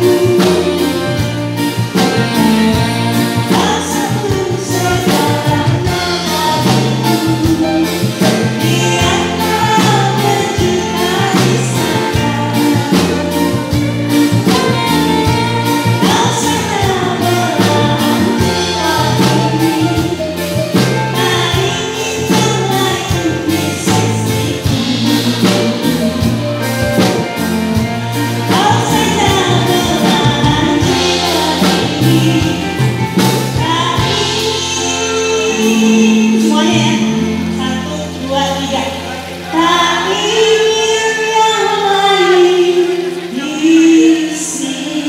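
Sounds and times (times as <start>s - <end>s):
woman singing into a microphone: 0.0s - 27.5s, 28.2s - 45.0s
live band with keyboard and drums: 0.0s - 45.0s.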